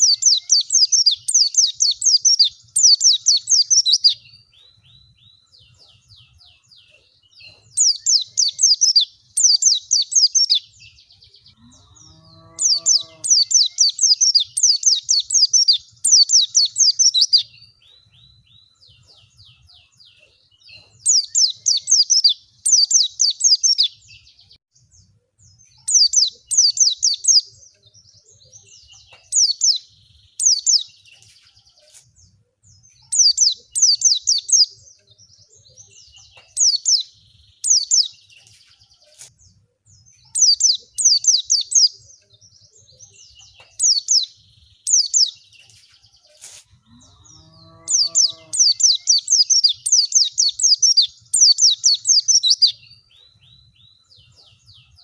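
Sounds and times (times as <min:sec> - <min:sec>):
bird song high downward notes: 0:00.0 - 0:55.0
faint bird chirps: 0:00.0 - 0:55.0.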